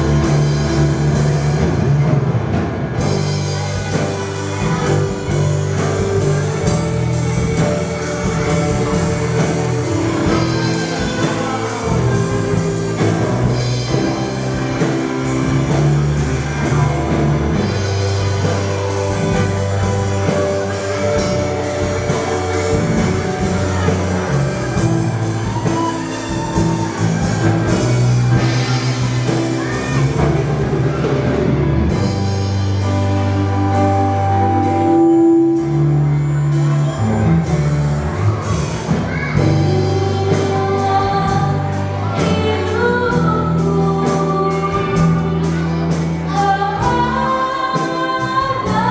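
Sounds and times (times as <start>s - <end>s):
band with drums bass guitar: 0.0s - 48.9s
children's choir singing: 2.4s - 32.5s, 33.2s - 48.9s.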